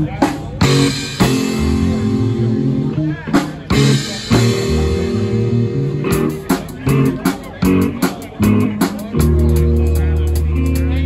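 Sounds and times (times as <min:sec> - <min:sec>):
electric bass line: 0:00.0 - 0:11.0
electric guitar chords: 0:00.0 - 0:11.0.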